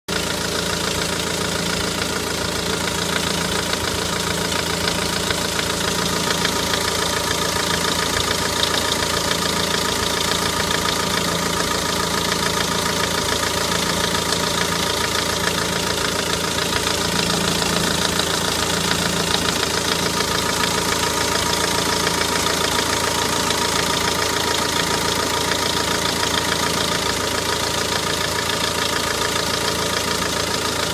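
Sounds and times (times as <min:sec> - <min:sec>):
diesel engine idling: 0:00.1 - 0:30.9.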